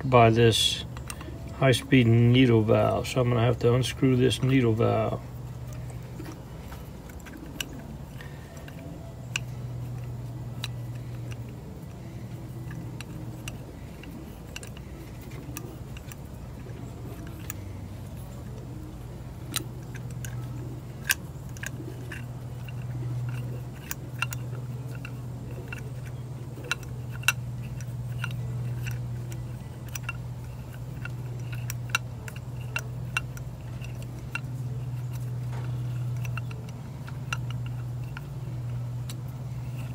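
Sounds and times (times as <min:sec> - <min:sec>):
steady low hum: 0:00.0 - 0:39.9
small metal clicks: 0:00.6 - 0:39.9.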